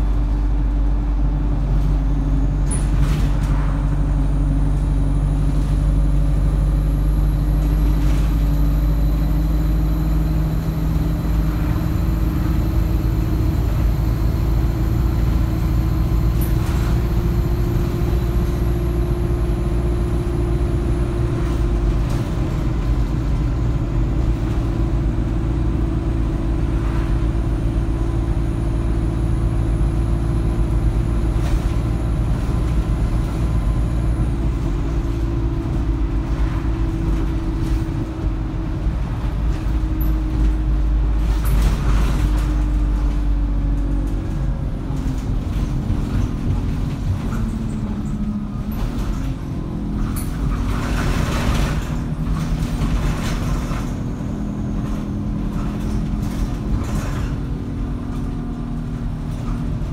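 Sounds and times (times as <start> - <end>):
bus diesel engine drone: 0.0 - 59.9
road rumble: 0.0 - 59.9.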